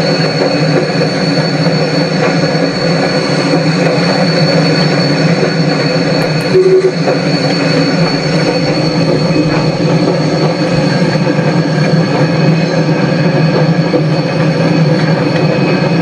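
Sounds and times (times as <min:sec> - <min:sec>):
high steady whine: 0:00.0 - 0:16.0
train rumbling: 0:00.0 - 0:16.0.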